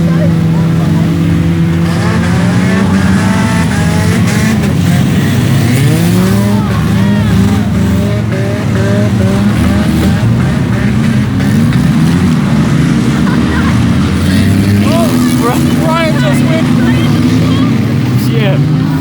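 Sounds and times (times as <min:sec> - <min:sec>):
car engines revving loudly: 0:00.0 - 0:19.0.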